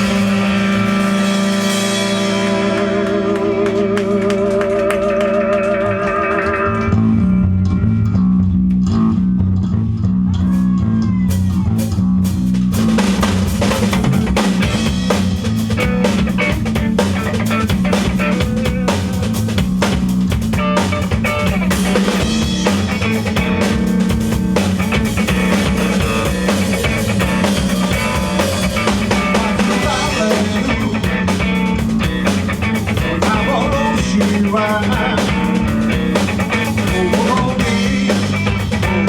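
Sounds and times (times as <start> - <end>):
rock band playing live: 0.0 - 8.0, 10.4 - 39.0.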